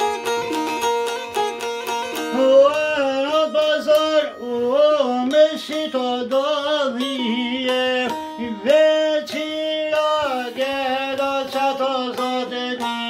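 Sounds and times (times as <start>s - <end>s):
strummed long-necked lute: 0.0s - 13.0s
man singing folk song: 2.1s - 13.0s.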